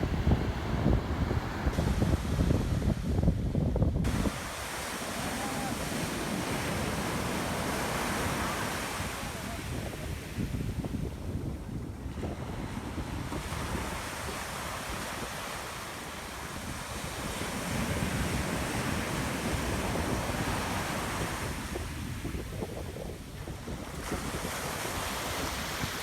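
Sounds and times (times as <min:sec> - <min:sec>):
ocean surf on sand: 0:00.0 - 0:26.0
wind rumbling on microphone: 0:00.0 - 0:26.0.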